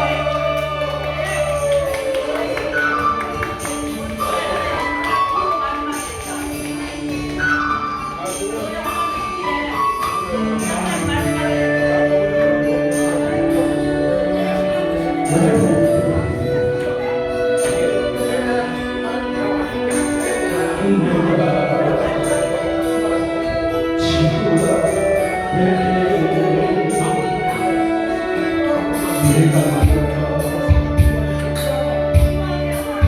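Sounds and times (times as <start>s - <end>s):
held instrumental notes: 1.1s - 33.0s.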